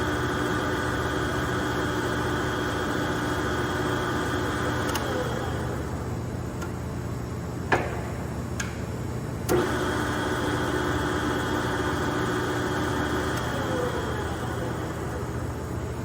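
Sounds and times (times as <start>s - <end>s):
lathe machine hum: 0.0s - 7.0s, 9.4s - 16.0s.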